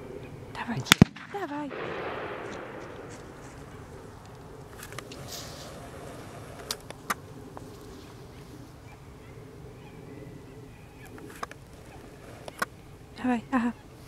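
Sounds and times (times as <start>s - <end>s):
open-air background hiss: 0.0s - 14.0s.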